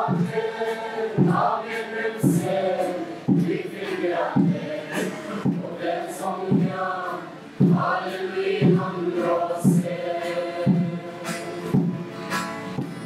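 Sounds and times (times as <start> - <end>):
children's choir singing a hymn: 0.0 - 12.2
low beat: 0.0 - 13.0.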